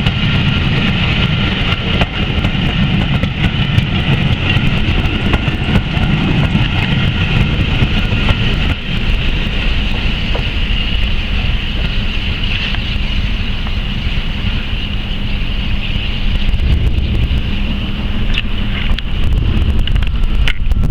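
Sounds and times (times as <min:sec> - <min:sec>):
constant high hiss: 0:00.0 - 0:20.7
train rumbling: 0:00.0 - 0:20.9
wind buffeting microphone: 0:00.0 - 0:20.9.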